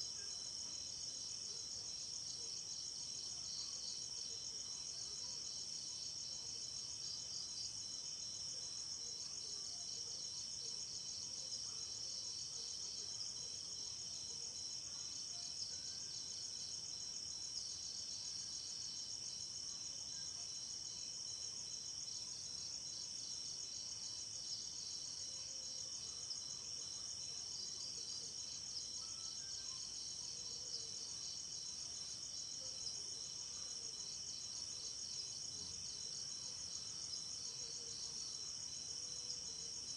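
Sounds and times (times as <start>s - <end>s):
thin steady insect trills: 0.0s - 39.9s.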